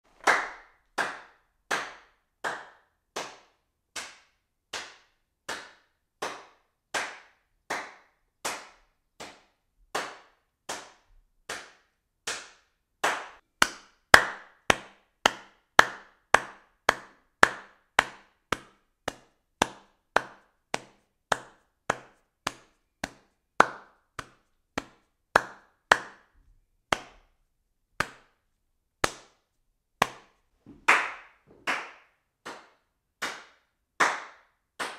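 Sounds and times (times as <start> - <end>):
hand claps: 0.1 - 27.4, 28.0 - 34.9.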